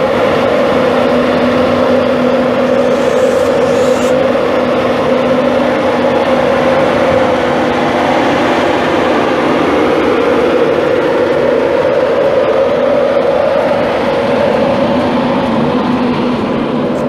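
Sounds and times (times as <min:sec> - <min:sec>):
passenger train running: 0:00.0 - 0:17.0.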